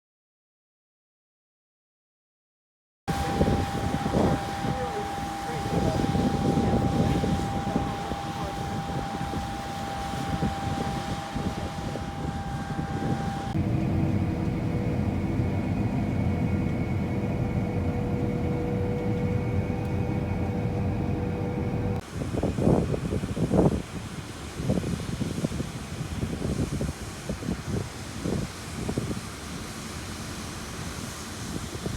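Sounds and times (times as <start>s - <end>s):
combine harvester engine: 3.1s - 31.9s
machinery whine: 3.1s - 31.9s.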